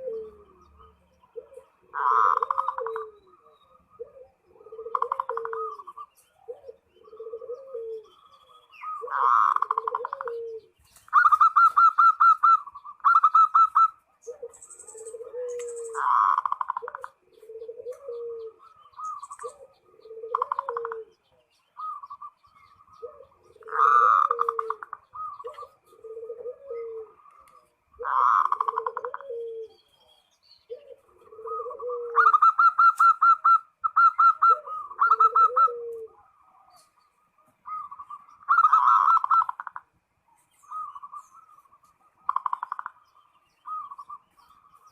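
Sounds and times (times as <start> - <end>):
rapid bird trilling: 0.0 - 21.1, 21.8 - 29.7, 30.8 - 36.2, 36.8 - 39.9, 40.6 - 44.9
dove cooing: 0.0 - 44.9.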